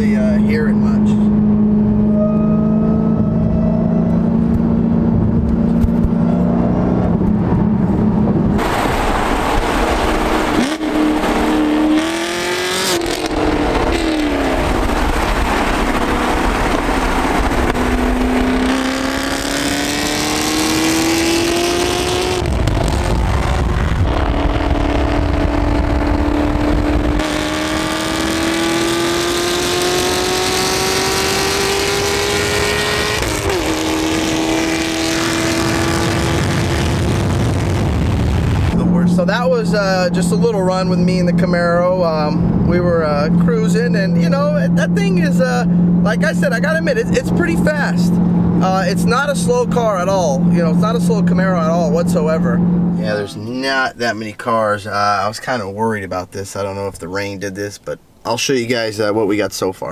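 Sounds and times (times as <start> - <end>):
supercharger whine: 0.0 - 53.4
car engine accelerating: 0.0 - 53.9.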